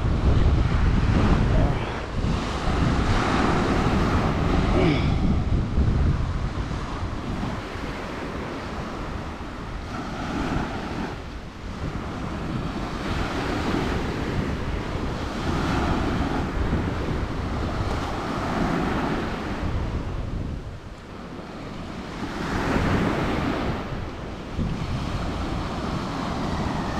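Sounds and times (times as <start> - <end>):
ocean waves breaking on beach: 0.0 - 26.9.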